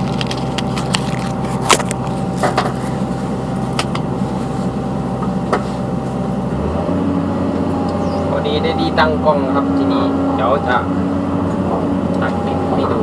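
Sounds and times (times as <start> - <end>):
diesel engine idling: 0.0 - 13.0
thin steady whine: 0.0 - 13.0.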